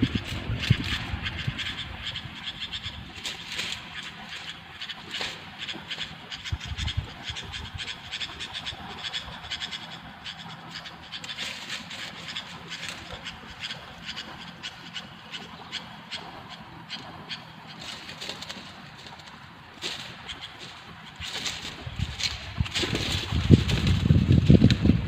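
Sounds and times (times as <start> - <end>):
bulbuls chirping: 0.0 - 25.0.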